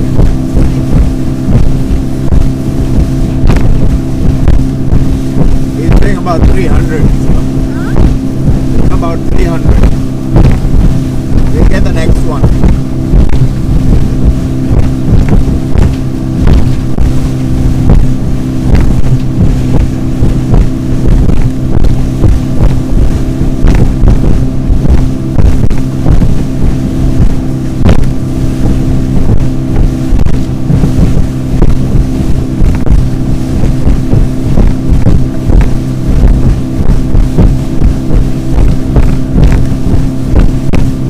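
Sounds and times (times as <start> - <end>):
motorboat engine drone: 0.0 - 41.0
wind buffeting microphone: 0.0 - 41.0.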